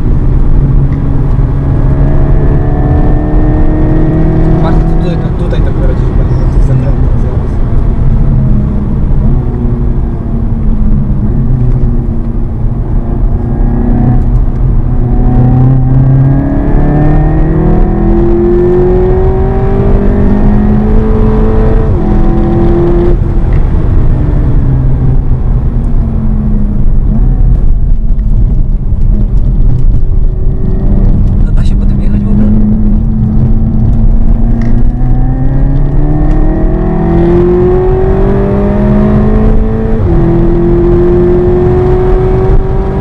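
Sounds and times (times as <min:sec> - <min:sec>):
car engine revving: 0:00.0 - 0:43.0
road and tyre noise: 0:00.0 - 0:43.0.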